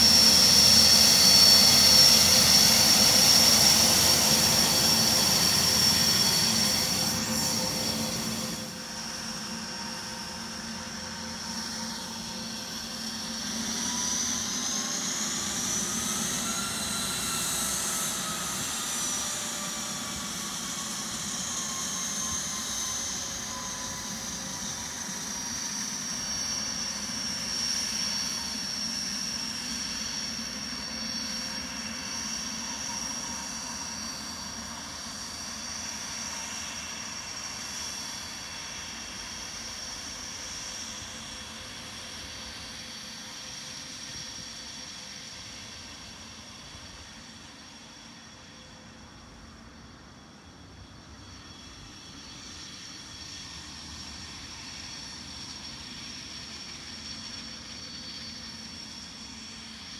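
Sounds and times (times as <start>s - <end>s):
jet turbine whine: 0.0s - 59.9s.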